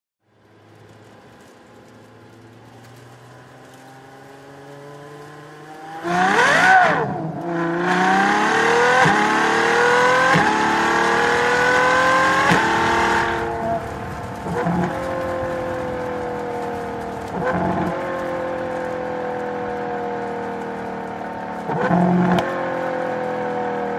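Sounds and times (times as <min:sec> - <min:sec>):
sports car engine revving: 0:03.9 - 0:23.9.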